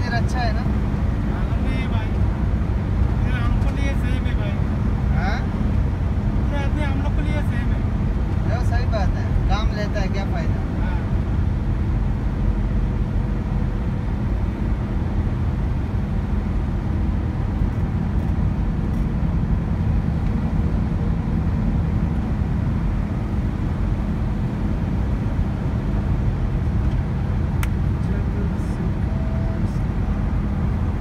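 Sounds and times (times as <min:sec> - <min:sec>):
road and engine rumble in vehicle: 0:00.0 - 0:31.0.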